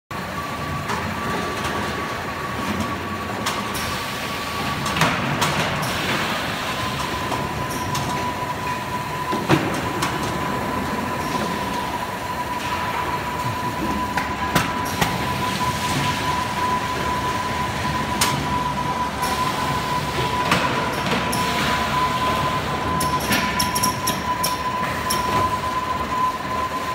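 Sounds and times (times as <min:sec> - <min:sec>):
filling machine hum and whine: 0:00.1 - 0:26.9.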